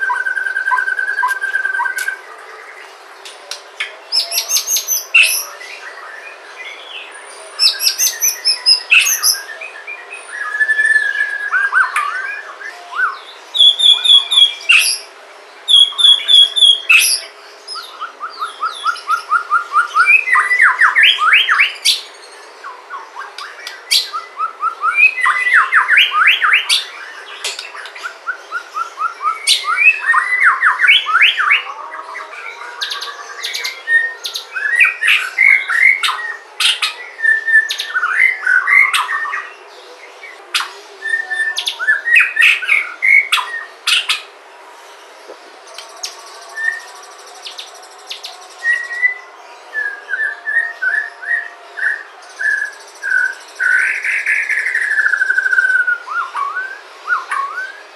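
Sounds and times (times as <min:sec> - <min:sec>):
bird singing trills: 0:00.0 - 0:44.4, 0:45.0 - 0:57.9.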